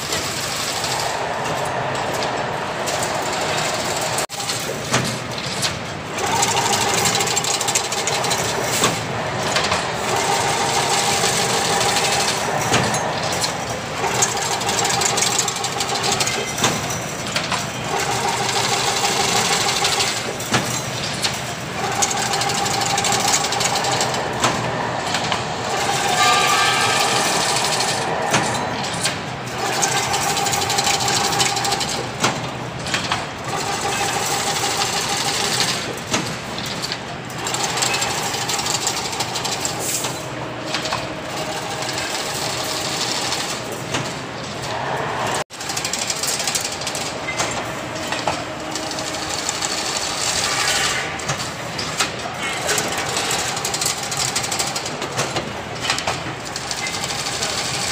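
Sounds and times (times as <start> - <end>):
machine humming tone: 0.0 - 4.8, 5.4 - 36.2, 36.8 - 55.1
machine mechanical clatter: 0.0 - 57.9.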